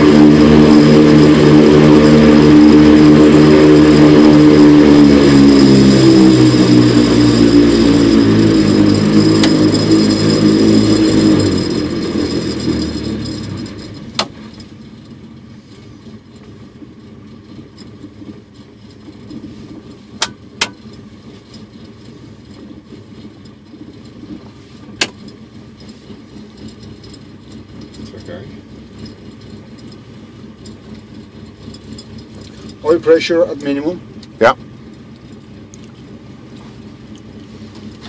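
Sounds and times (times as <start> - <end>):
aircraft engine running: 0.0 - 38.0.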